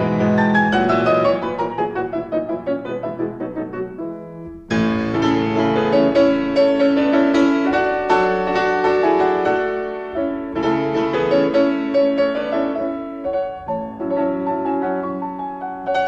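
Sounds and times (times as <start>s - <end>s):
solo piano melody: 0.0s - 16.0s.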